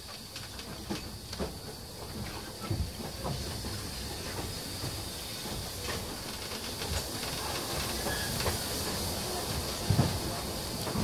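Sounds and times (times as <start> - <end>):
steam hissing: 0.0 - 11.0
steam locomotive exhaust beats: 0.0 - 11.0.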